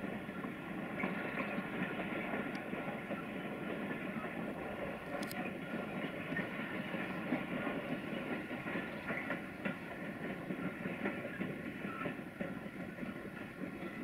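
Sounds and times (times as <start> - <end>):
wheels clacking over rail joints: 0.2 - 14.0.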